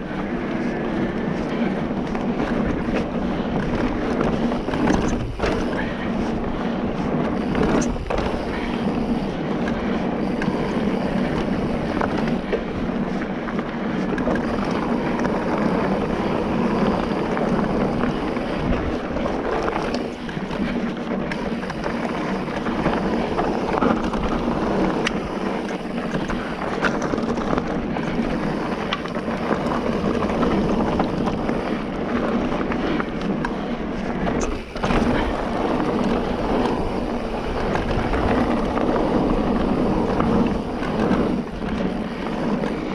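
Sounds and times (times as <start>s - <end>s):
mountain bike rumble: 0.0s - 42.9s
wind rushing over microphone: 0.0s - 42.9s.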